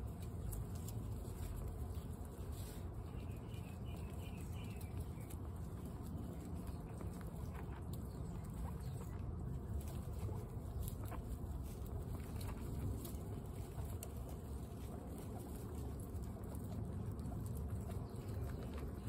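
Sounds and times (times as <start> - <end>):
guinea pigs crunching pellets: 0.0 - 19.0.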